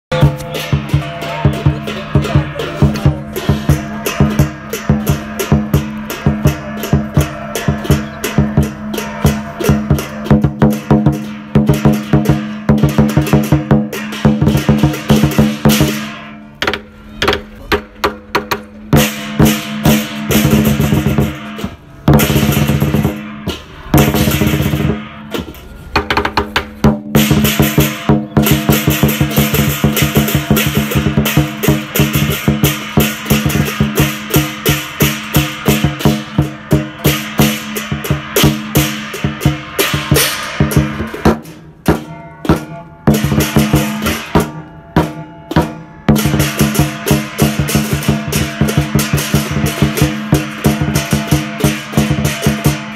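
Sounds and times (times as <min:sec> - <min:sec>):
hand cymbals crashing: 0:00.1 - 0:16.6, 0:18.9 - 0:25.8, 0:26.8 - 0:52.9
drum beaten with sticks: 0:00.1 - 0:52.9.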